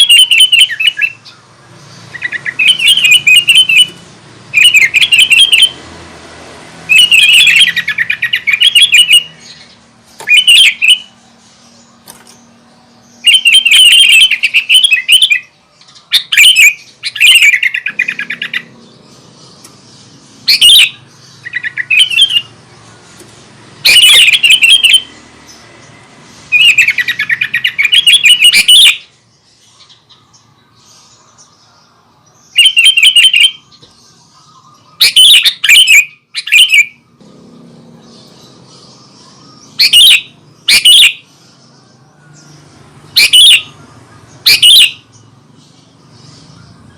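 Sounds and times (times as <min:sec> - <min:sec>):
bird singing and chattering: 0:00.0 - 0:06.1, 0:06.7 - 0:46.9.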